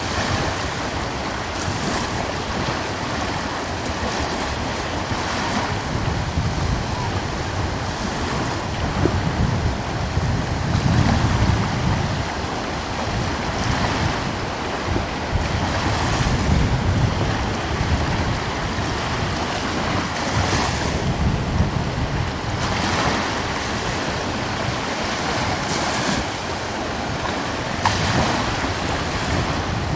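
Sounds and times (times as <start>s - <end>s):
waves washing: 0.0s - 29.9s
wind blowing over sea: 0.0s - 29.9s.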